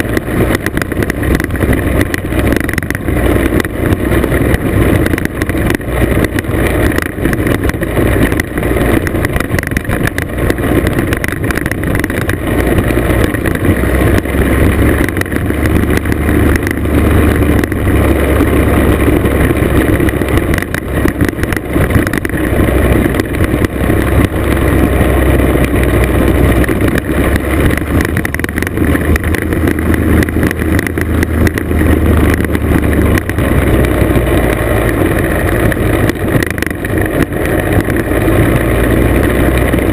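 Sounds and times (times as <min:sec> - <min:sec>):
scooter engine running: 0:00.0 - 0:39.9
wind buffeting microphone: 0:00.0 - 0:39.9.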